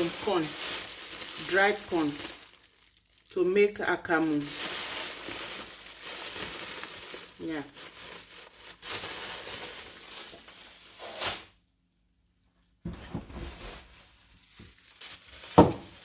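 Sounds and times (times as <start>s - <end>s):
plastic packaging rustling: 0.0s - 11.6s, 12.6s - 16.0s.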